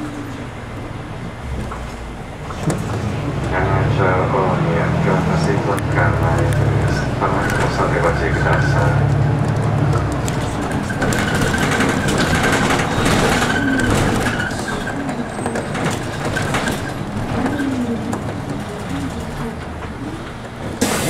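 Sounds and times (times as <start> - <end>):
bus engine: 0.0 - 21.0
road noise: 0.0 - 21.0.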